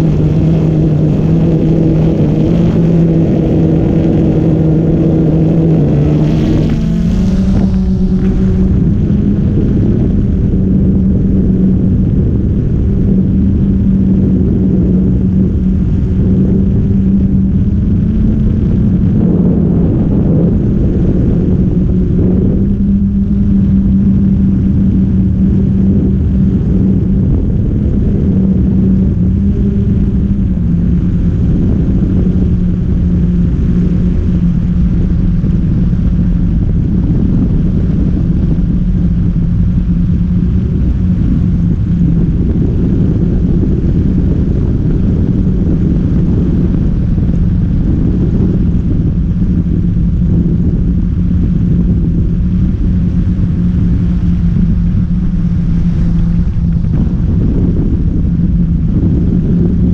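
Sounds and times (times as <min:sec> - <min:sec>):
drone propellers humming: 0:00.0 - 0:59.9
low rumble: 0:00.0 - 0:59.9.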